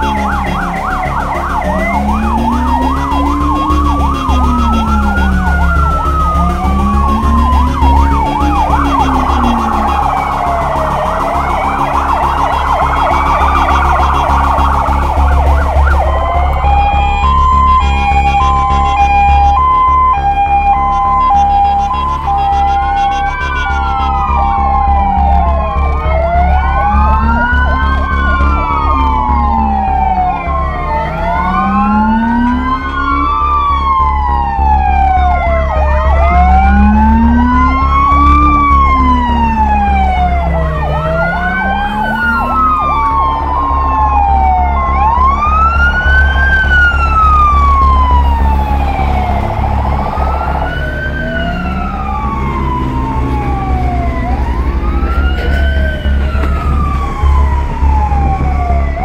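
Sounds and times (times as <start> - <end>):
low engine rumble: 0.0 - 59.0
sirens wailing: 0.0 - 59.0
two-tone siren: 0.0 - 59.0.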